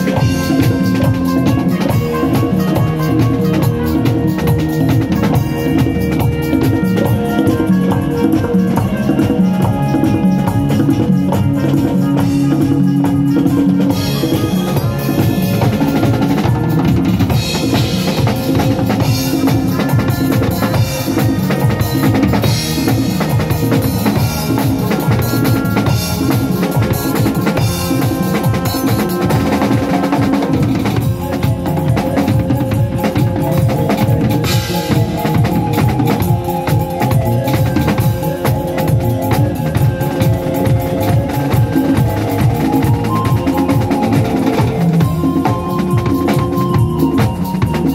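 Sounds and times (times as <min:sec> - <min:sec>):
drum kit playing: 0:00.0 - 0:47.9
hand drums: 0:00.0 - 0:47.9
held instrument notes: 0:00.0 - 0:47.9.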